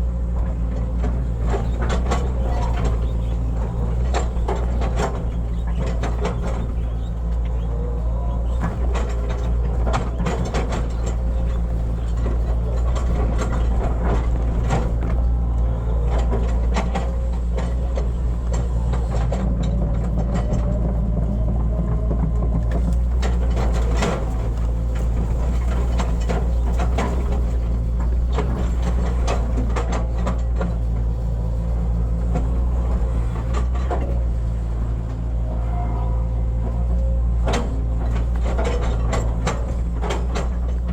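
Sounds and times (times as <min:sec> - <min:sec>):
excavator diesel engine: 0:00.0 - 0:40.9
knocks and clanks from digging: 0:00.4 - 0:35.2, 0:36.6 - 0:40.9.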